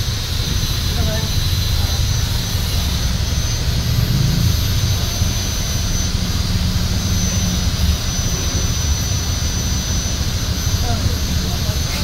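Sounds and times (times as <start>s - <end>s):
faint high whine: 0.0s - 12.0s
low mechanical rumble: 0.0s - 12.0s.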